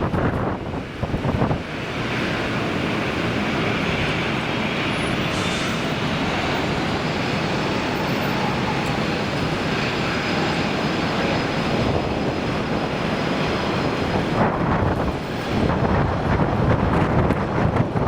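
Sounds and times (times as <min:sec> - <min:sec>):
airliner engine noise: 0:00.0 - 0:18.0
wind buffeting microphone: 0:00.0 - 0:18.0.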